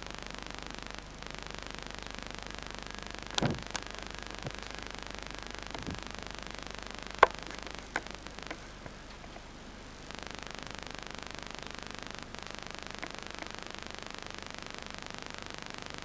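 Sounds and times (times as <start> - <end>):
tape hiss and hum: 0.0 - 16.0.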